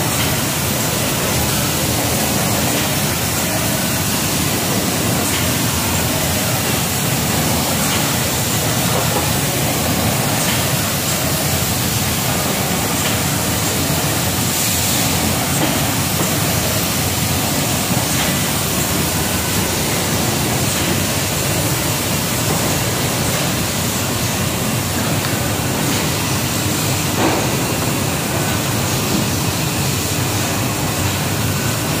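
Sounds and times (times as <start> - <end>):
machine running: 0.0 - 32.0.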